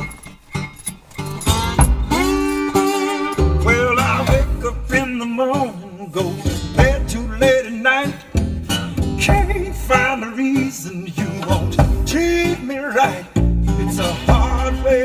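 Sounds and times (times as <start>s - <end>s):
slow song with singer and guitar: 0.0s - 15.0s.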